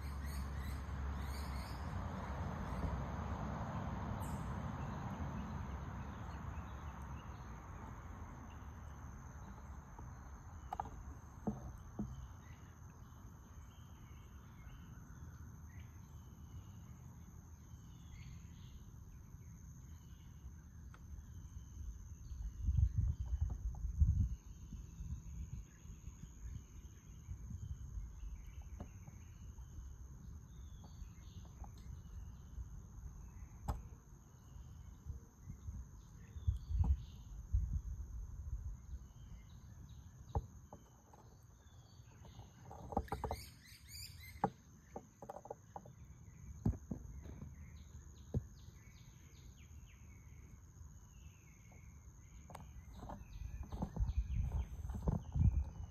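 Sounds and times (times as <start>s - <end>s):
small birds chirping: 0.0s - 2.0s, 4.2s - 37.7s, 38.5s - 55.9s.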